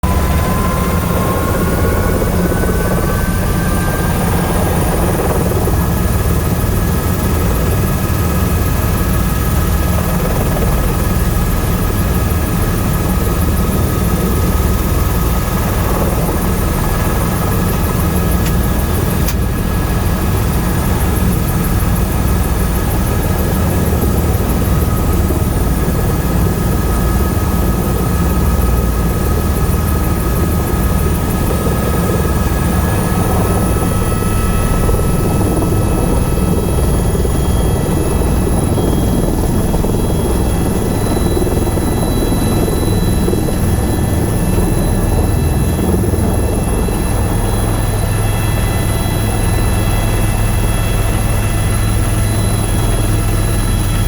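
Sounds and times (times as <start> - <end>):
helicopter rotor and turbine: 0.0 - 54.0.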